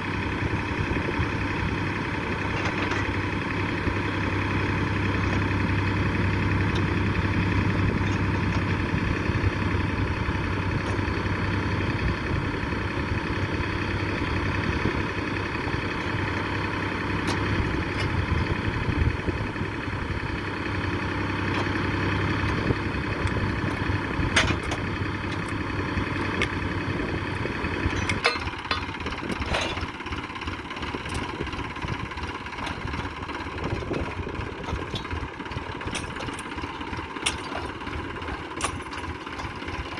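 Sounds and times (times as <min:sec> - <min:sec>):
heavy machine engine humming: 0:00.0 - 0:39.9.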